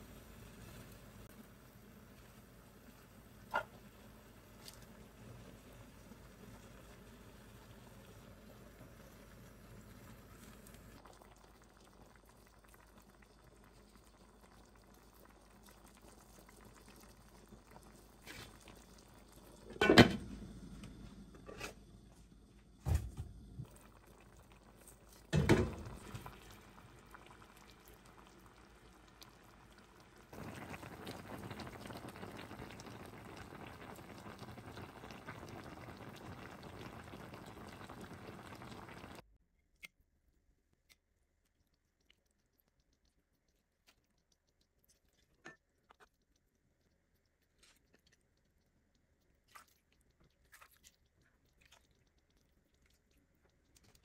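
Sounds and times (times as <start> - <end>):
broth bubbling in a pan: 0.0 - 39.3, 40.7 - 54.0.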